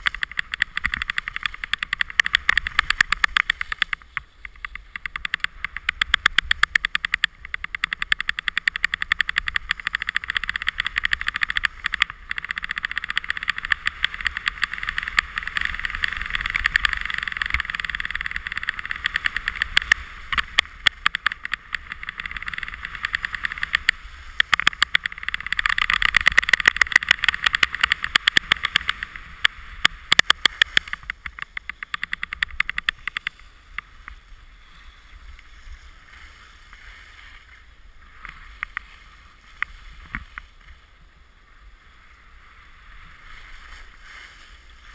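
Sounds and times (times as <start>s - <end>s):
skis scraping over snow: 0.0s - 44.9s.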